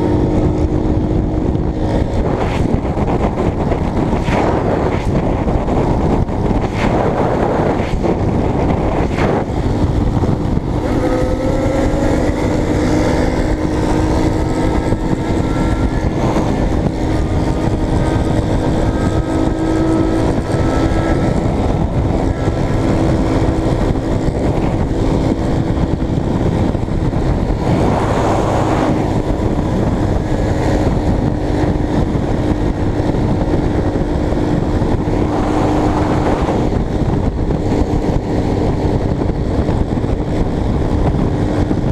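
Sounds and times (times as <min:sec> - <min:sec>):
motorcycle engine drone: 0:00.0 - 0:41.9
wind rushing over microphone: 0:00.0 - 0:41.9.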